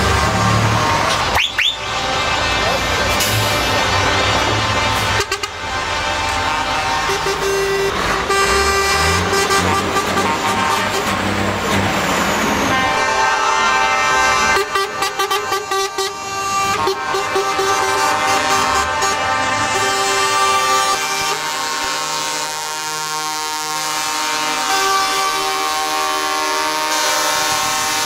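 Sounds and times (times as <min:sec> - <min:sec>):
truck air horns blowing: 0:00.0 - 0:28.0
truck engines running: 0:00.0 - 0:28.0.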